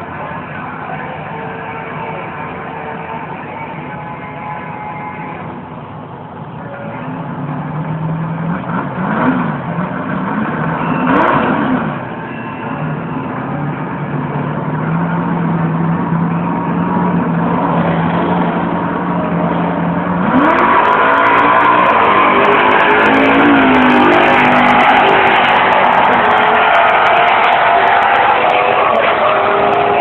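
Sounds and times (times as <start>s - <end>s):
drag racing engines revving: 0.0s - 30.0s.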